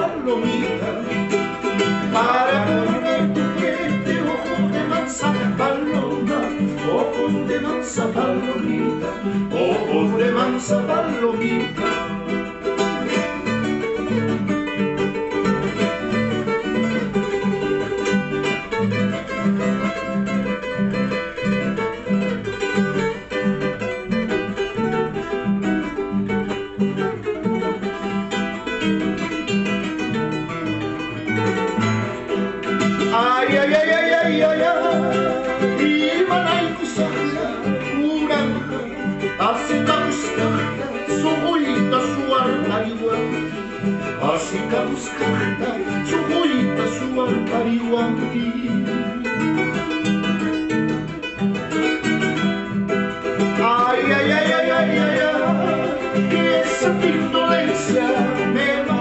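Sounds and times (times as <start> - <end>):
acoustic guitar plucked bass notes: 0.0 - 59.0
charango strummed melody: 0.0 - 59.0.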